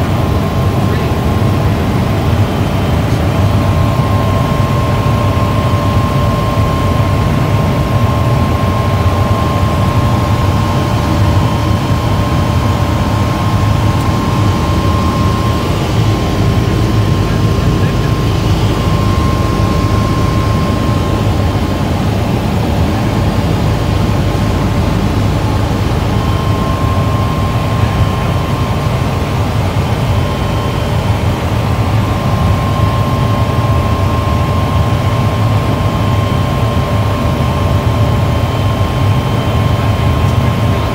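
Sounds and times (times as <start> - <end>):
helicopter engine and rotor drone: 0.0 - 40.9
thin steady whine: 0.0 - 40.9.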